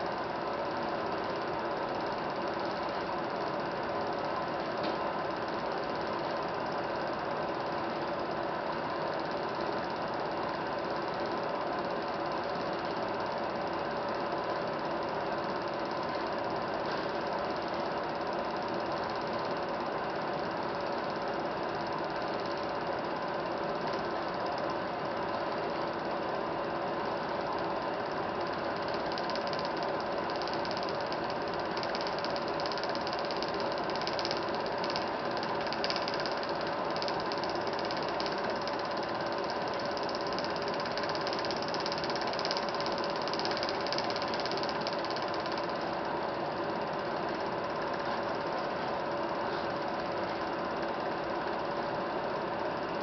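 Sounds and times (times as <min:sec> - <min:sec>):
film projector running: 0:00.0 - 0:53.0.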